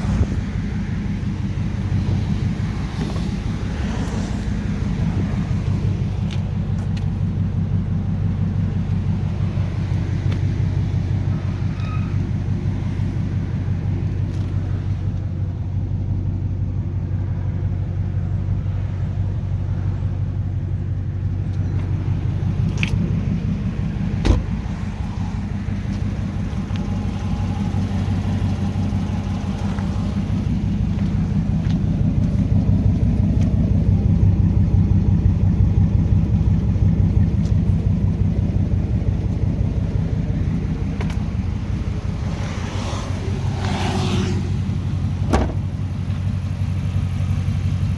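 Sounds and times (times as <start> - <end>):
car engine idling loudly: 0.0 - 47.9.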